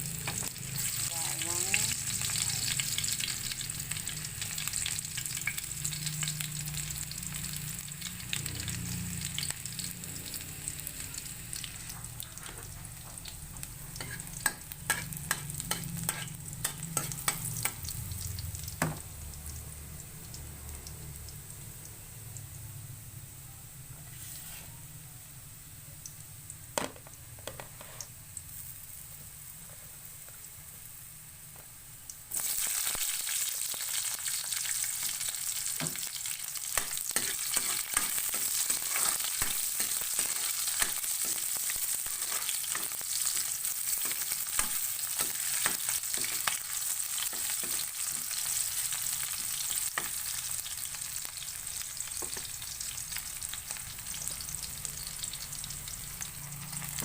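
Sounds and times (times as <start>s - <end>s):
food sizzling in hot oil: 0.0s - 23.4s, 25.3s - 57.0s.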